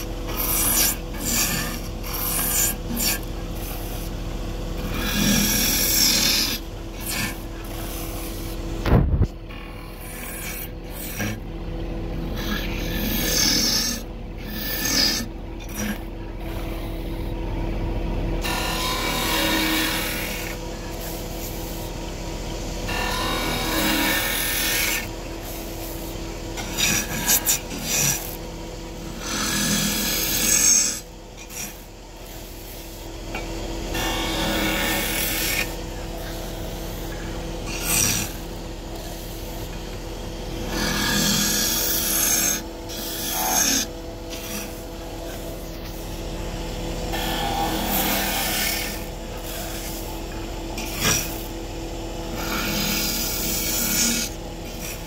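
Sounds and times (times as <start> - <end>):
tool cutting spinning wood: 0.0 - 17.6, 18.3 - 55.0
wood lathe humming: 0.0 - 55.0.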